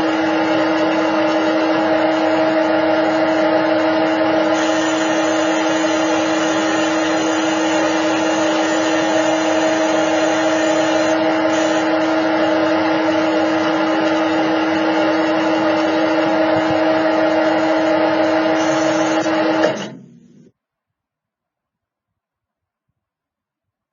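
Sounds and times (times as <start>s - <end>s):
lathe motor whine: 0.0s - 20.5s.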